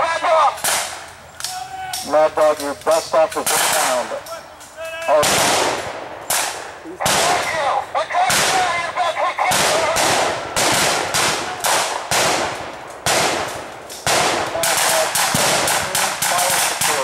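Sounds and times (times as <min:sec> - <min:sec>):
rifle shots echoing: 0:02.1 - 0:04.2, 0:05.1 - 0:17.0.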